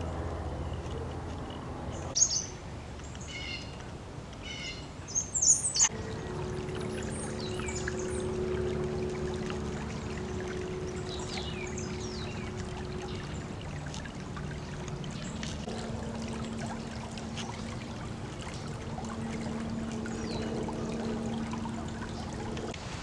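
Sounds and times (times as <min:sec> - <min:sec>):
low hum: 0:00.0 - 0:04.4, 0:05.7 - 0:23.0
creek water trickling: 0:00.0 - 0:23.0.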